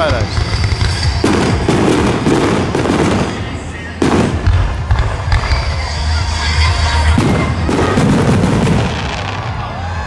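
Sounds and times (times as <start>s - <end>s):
fireworks booming: 0.0s - 10.0s.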